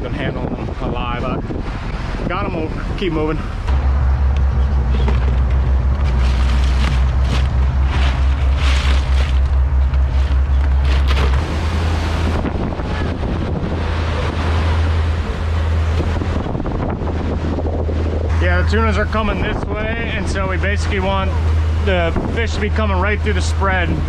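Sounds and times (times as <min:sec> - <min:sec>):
boat engine droning: 0:00.0 - 0:24.0
wind buffeting microphone: 0:00.0 - 0:24.0.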